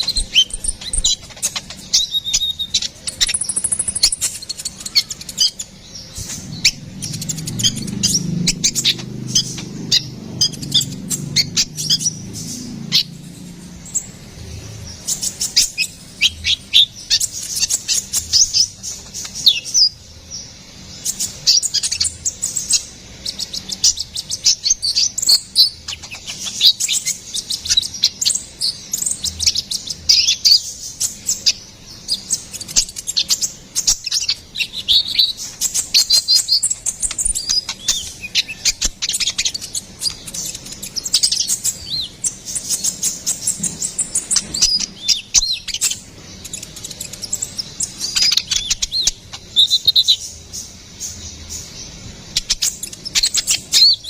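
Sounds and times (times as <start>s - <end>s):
sunbird singing high chirps: 0.0s - 54.0s.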